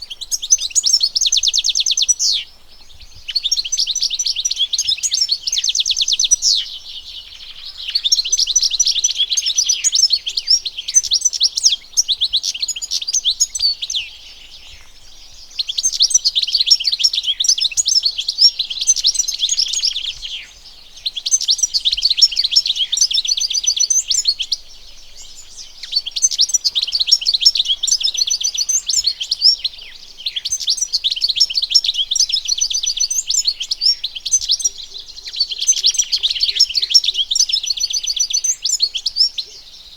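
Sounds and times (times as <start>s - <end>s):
goldfinch singing twitters and trills: 0.0s - 39.9s.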